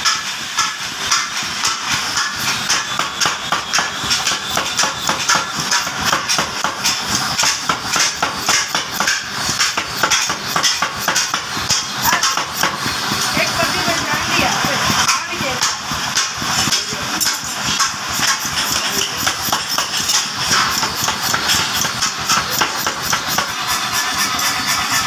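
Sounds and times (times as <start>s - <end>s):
power hammer striking hot steel: 0.0s - 25.0s.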